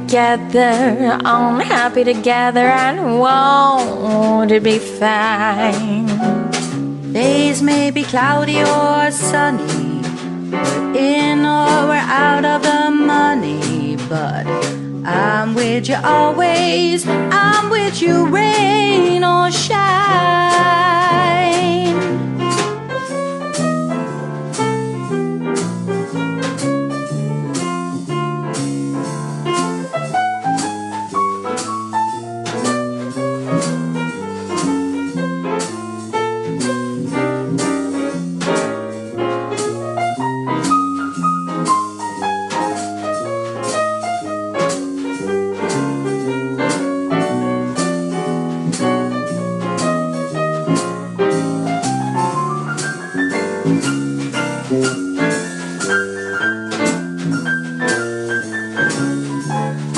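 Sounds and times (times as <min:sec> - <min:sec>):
bass: 0:00.0 - 0:59.9
drum kit keeping time: 0:00.0 - 0:59.9
jazz piano solo: 0:00.0 - 0:59.9.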